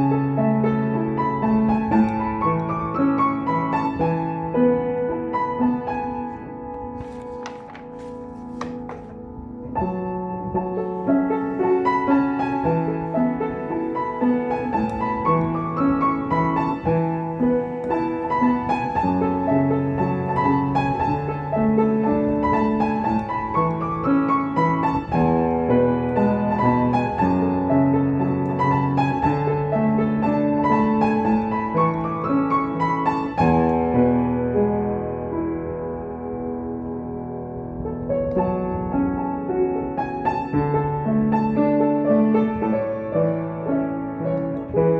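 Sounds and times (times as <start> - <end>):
solo upright piano: 0.0 - 44.9.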